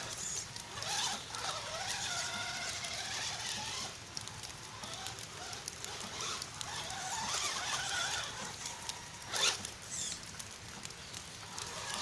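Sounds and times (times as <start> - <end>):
electric motor whining: 0.0 - 10.2, 11.5 - 12.0.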